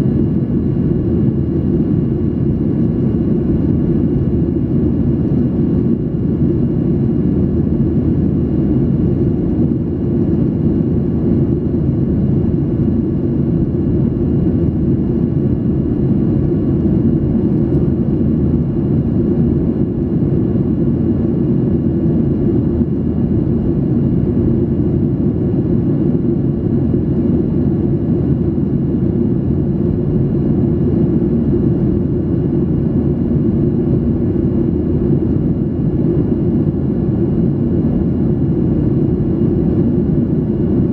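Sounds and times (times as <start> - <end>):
airplane cabin roar: 0.0 - 40.9.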